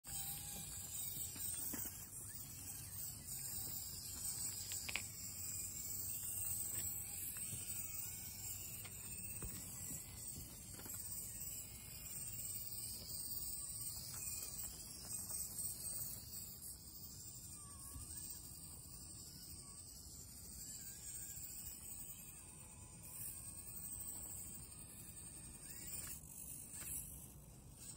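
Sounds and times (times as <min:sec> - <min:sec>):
faint motor whine: 0:00.1 - 0:27.9.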